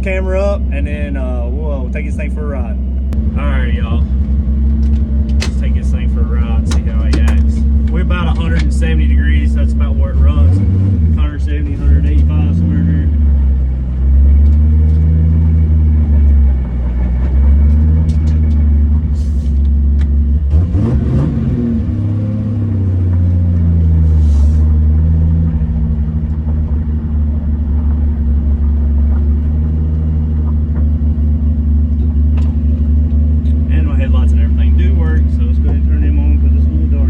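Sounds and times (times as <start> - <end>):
car engine droning: 0.0 - 37.0.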